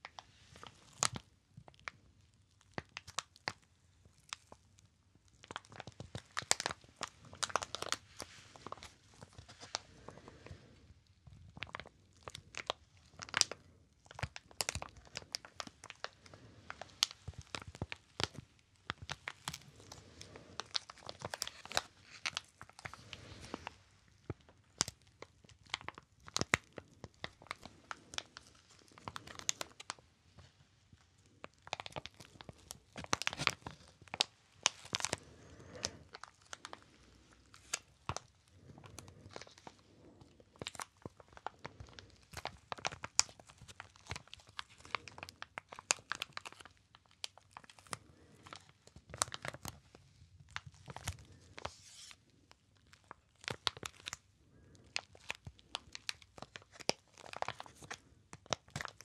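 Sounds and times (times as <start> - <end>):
plastic packaging crinkling: 0.0 - 4.7, 5.3 - 59.0.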